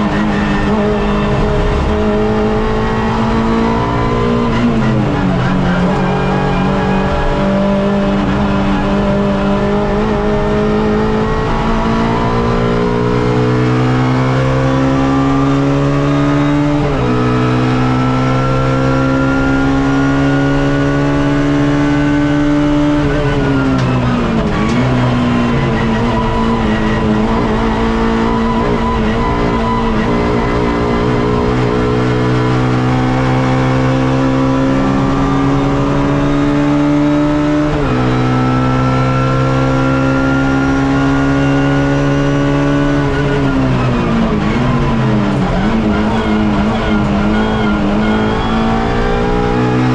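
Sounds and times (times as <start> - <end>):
race car engine accelerating: 0.0 - 49.9.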